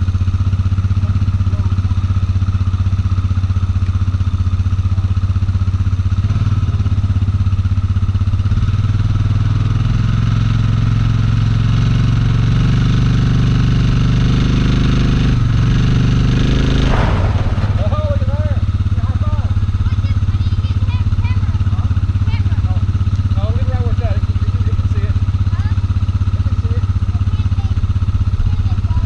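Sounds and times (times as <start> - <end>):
atv engine under load: 0.0 - 29.0.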